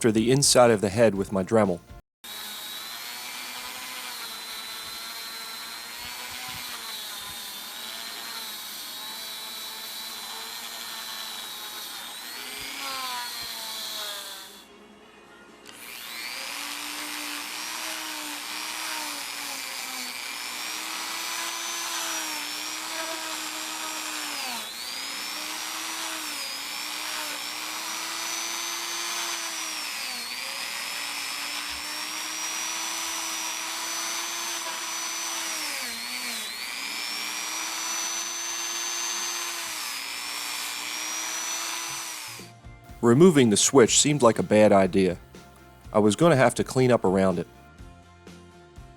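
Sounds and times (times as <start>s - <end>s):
rotary tool grinding metal: 2.3s - 14.7s, 15.6s - 42.5s.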